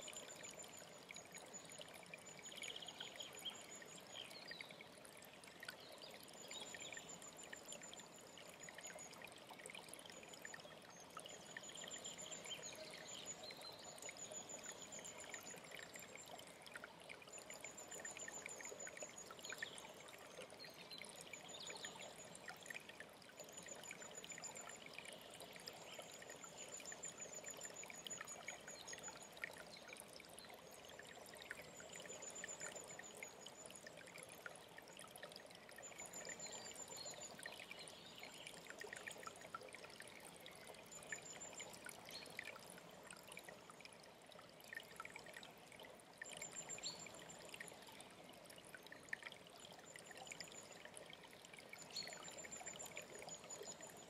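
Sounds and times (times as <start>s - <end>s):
mountain stream running: 0.0s - 54.0s.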